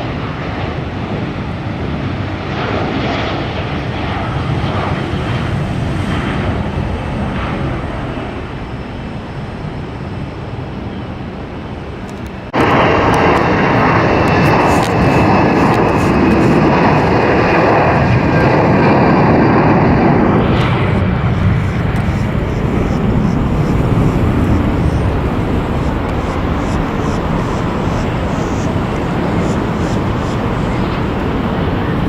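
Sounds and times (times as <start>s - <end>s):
high engine whine: 0.0s - 32.0s
jet engine rumble: 0.0s - 32.0s.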